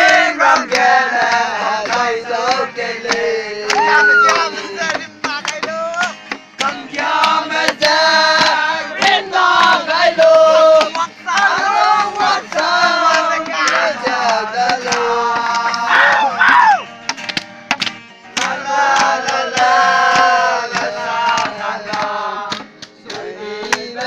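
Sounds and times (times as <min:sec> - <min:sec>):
group of young men singing: 0:00.0 - 0:16.8, 0:18.3 - 0:24.0.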